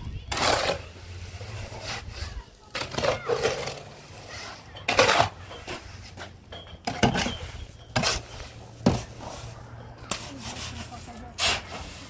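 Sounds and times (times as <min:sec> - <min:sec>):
shovel scraping wet mortar: 0:00.0 - 0:06.3, 0:06.9 - 0:12.0.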